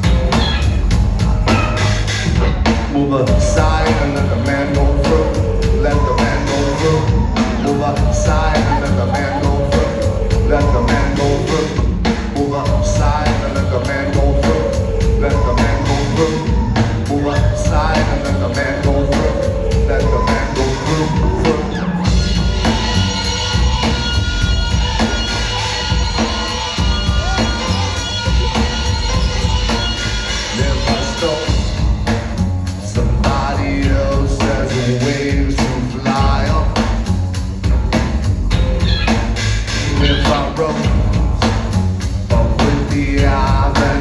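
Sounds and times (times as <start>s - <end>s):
driving drum kit: 0.0s - 44.0s
heavy bass line: 0.0s - 44.0s
live rock band: 0.0s - 44.0s.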